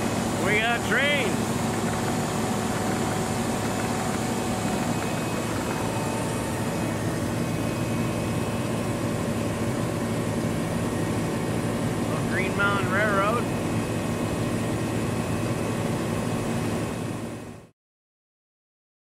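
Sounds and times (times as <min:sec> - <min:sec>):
engine drone: 0:00.0 - 0:17.7.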